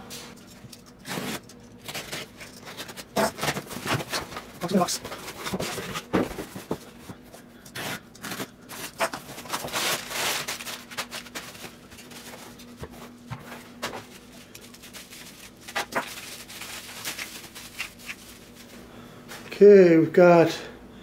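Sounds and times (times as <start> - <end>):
packaging rustling and crinkling: 0.4 - 7.2, 7.8 - 18.8.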